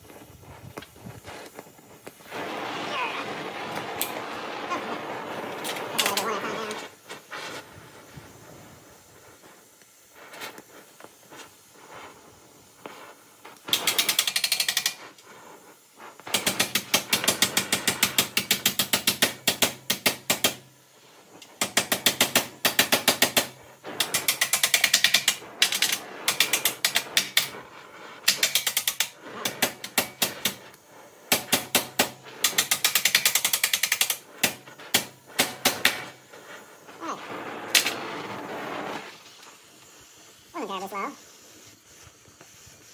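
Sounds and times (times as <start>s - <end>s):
flame hissing: 0.0s - 42.9s
torch flame popping: 0.0s - 42.9s.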